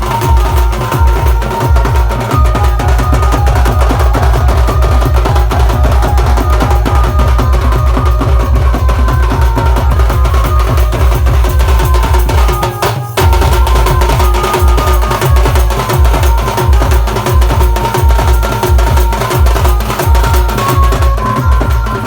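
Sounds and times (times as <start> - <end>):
heavy bass drum beats: 0.0 - 22.0
sustained melody line: 0.0 - 22.0.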